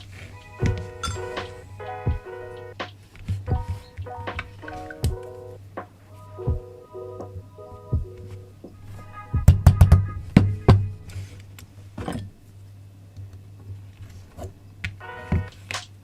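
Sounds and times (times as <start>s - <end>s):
low steady hum: 0.0s - 16.0s
quiet background music: 0.0s - 16.0s.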